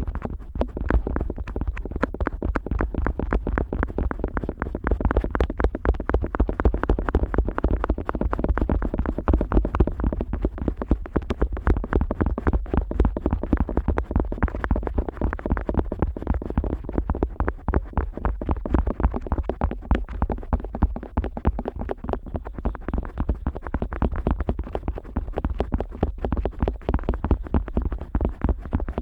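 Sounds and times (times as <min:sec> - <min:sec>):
muffled scrapes and thuds in ear: 0:00.0 - 0:29.0.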